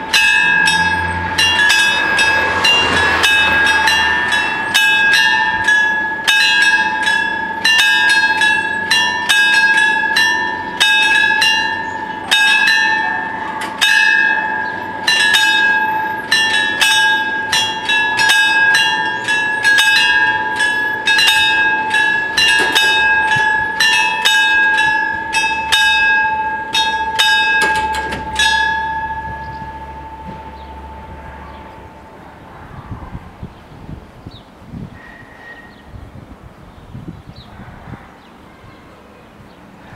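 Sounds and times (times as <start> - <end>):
level crossing bells ringing: 0.0 - 32.6
steady high tone: 0.0 - 32.8.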